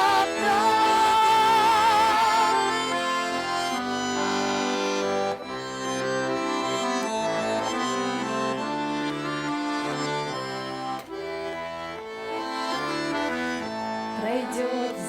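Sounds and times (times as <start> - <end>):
accordion playing chords and melody: 0.0 - 15.0.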